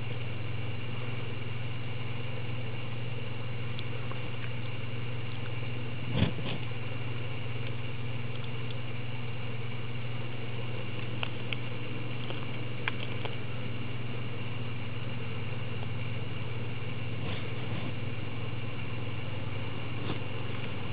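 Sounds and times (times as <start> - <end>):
low mechanical hum: 0.0 - 20.9.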